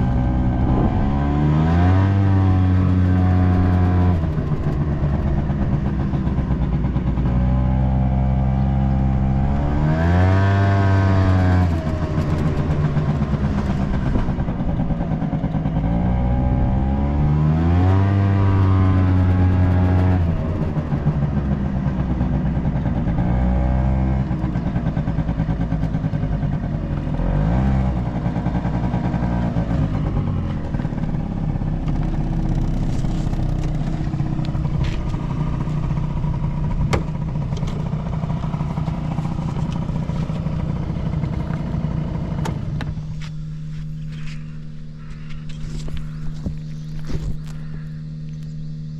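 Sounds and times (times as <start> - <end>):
scooter engine revving: 0.0 - 48.9.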